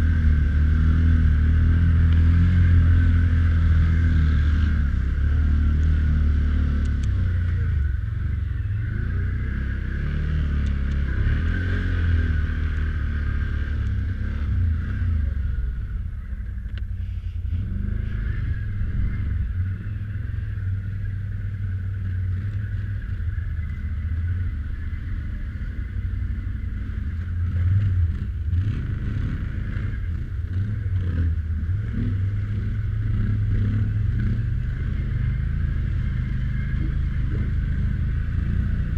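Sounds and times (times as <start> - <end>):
atv engine rumbling: 0.0 - 38.9.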